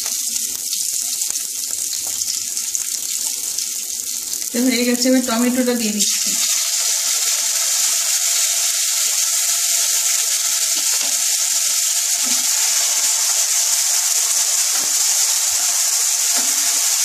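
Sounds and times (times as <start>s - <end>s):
tomatoes sizzling in hot oil: 0.0s - 17.0s.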